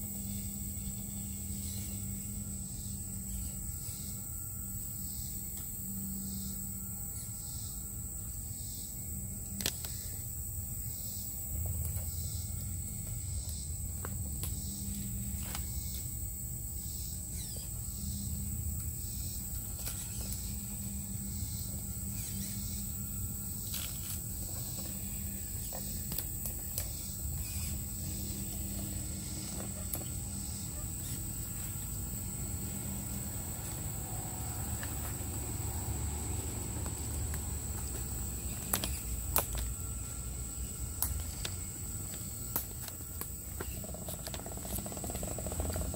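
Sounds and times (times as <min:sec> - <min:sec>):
electric motor and drivetrain hum: 0:00.0 - 0:45.9
high insect trill: 0:00.0 - 0:45.9.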